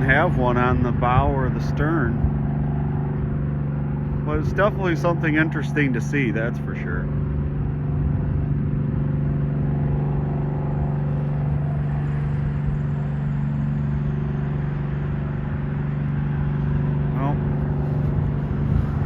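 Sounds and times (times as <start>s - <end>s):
boat diesel engine droning: 0.0s - 19.0s.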